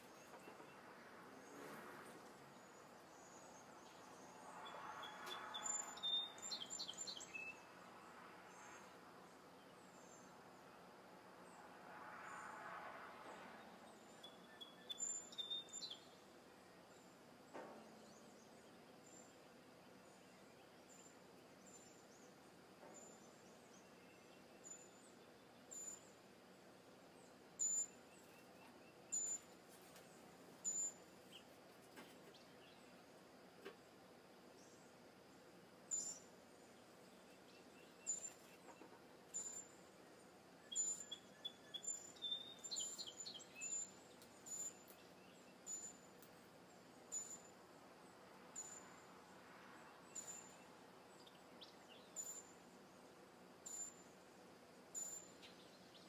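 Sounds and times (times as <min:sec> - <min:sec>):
faint steady background hiss: 0:00.0 - 0:56.0
songbird chirping: 0:00.0 - 0:56.0.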